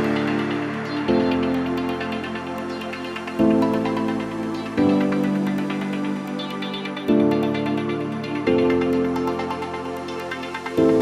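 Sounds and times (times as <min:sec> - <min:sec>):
electronic new-age music: 0:00.0 - 0:11.0.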